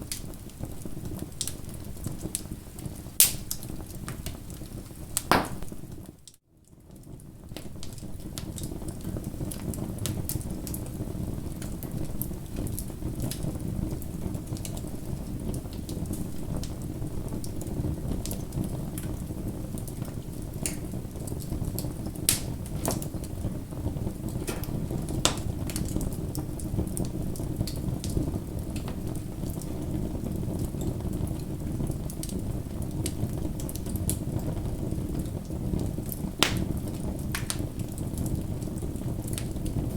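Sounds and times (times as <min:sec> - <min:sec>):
fire crackles and pops: 0:00.0 - 0:39.9
bonfire flames rushing: 0:07.4 - 0:39.9.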